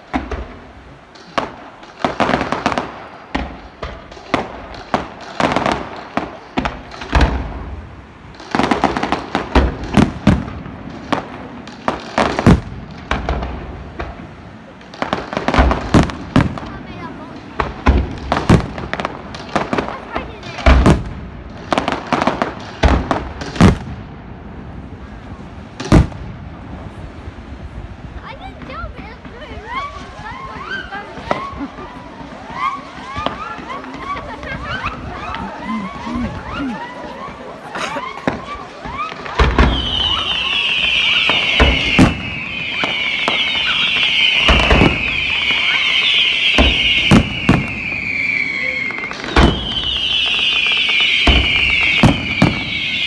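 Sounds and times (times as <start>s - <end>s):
fireworks banging and cracking: 0.0s - 53.0s.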